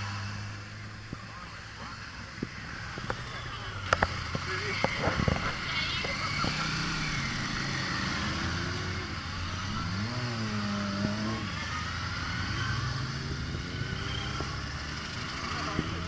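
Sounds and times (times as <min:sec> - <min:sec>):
motorcycle engine accelerating: 0:00.0 - 0:16.0
motorcycles riding past: 0:00.0 - 0:16.0
tyre and road noise: 0:00.0 - 0:16.0.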